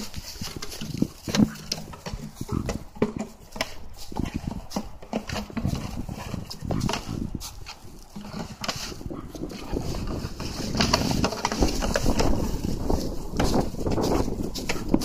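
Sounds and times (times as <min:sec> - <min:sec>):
grass rustling: 0:00.0 - 0:15.0
wind on microphone: 0:00.0 - 0:15.0.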